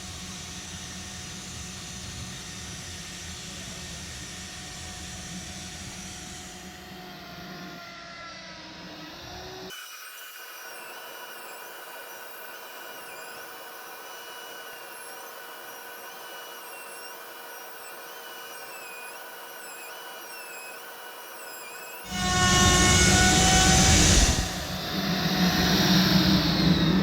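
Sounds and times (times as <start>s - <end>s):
router whining while cutting wood: 4.4s - 27.0s.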